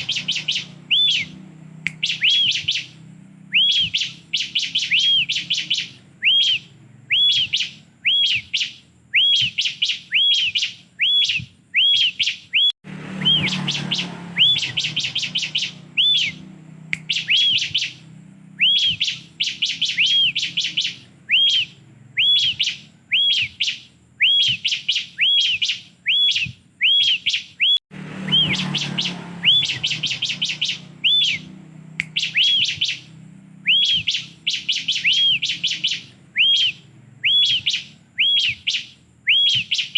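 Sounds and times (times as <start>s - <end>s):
bird high chirps: 0.0s - 39.9s.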